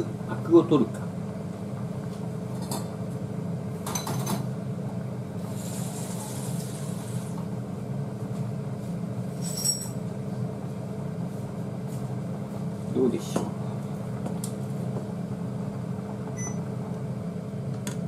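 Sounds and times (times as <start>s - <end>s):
kitchen appliances humming: 0.0s - 18.0s.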